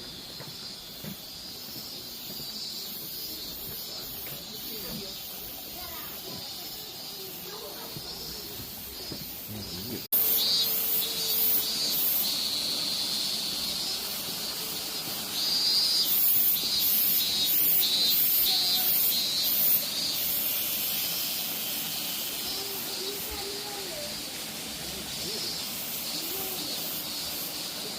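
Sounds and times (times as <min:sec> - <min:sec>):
cicadas singing: 0:00.0 - 0:27.9.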